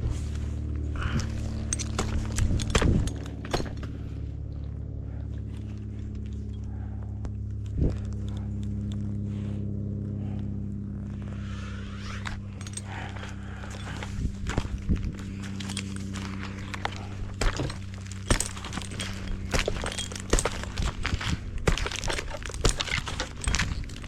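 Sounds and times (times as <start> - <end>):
engine idling: 0.0 - 24.0
gear clinking and rustling: 1.0 - 9.2, 11.9 - 24.0.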